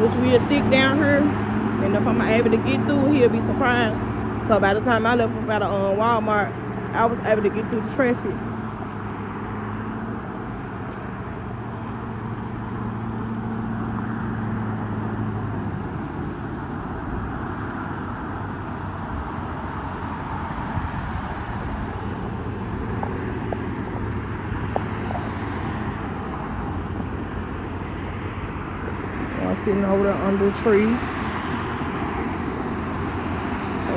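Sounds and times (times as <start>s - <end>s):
cars driving past: 0.0s - 33.9s
low engine hum: 0.0s - 33.9s.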